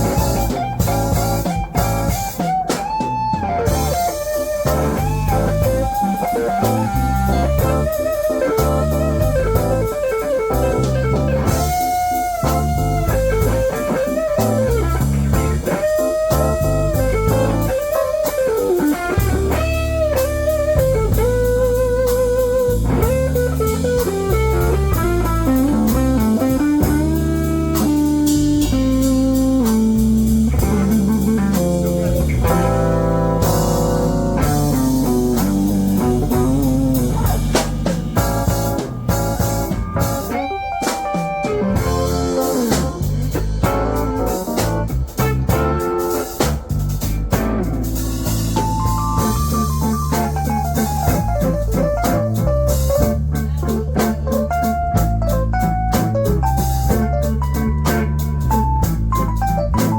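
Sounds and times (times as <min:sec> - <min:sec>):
bass and drums: 0:00.0 - 0:59.9
electric guitar blues solo: 0:00.0 - 0:59.9.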